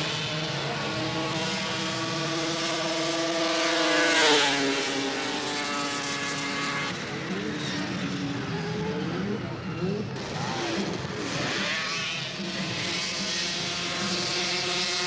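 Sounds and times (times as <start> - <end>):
snowmobile engine at high revs: 0.0 - 15.0.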